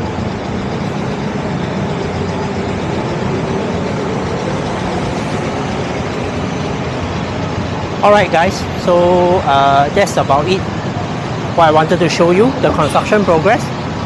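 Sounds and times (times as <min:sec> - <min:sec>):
busy road traffic: 0:00.0 - 0:14.0.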